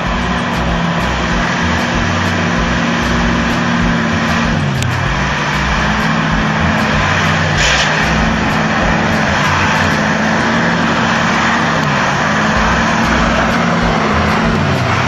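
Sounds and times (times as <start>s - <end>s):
loud rumbling noise: 0.0s - 15.0s
truck engine under load: 0.0s - 15.0s.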